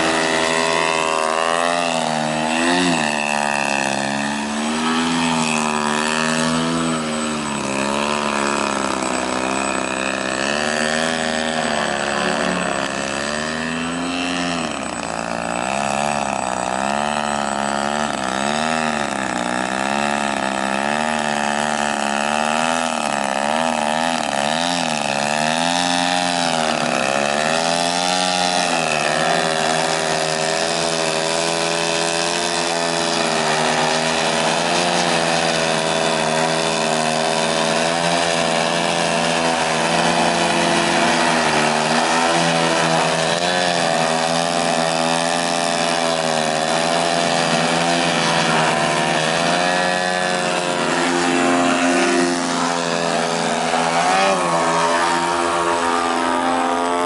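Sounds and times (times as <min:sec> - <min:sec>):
model plane engines running: 0:00.0 - 0:57.0.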